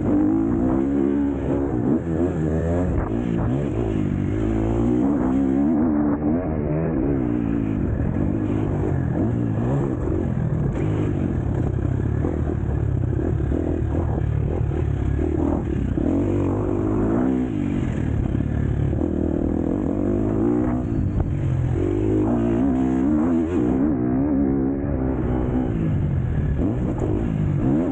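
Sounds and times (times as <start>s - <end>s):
motocross bike engine revving: 0.0s - 27.9s.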